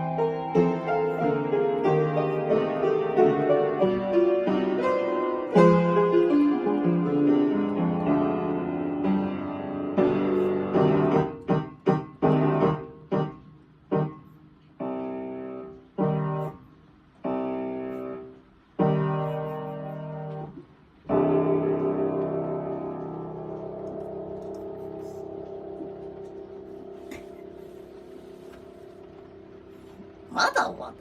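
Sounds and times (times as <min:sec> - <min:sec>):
piano chords: 0:00.0 - 0:31.0.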